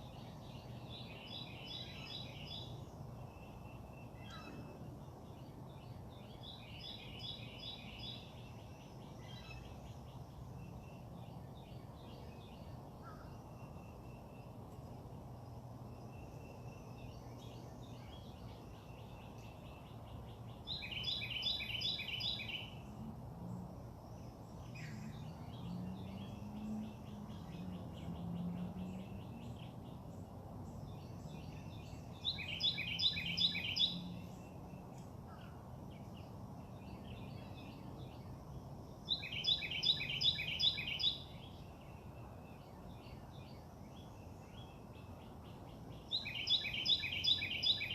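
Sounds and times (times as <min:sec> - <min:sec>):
faint bird chirps: 0:00.0 - 0:47.9
songbird singing: 0:00.0 - 0:47.9.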